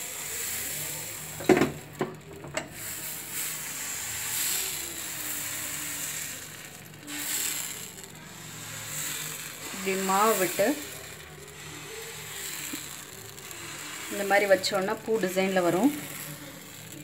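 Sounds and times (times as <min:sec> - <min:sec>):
steady hiss: 0:02.7 - 0:17.0.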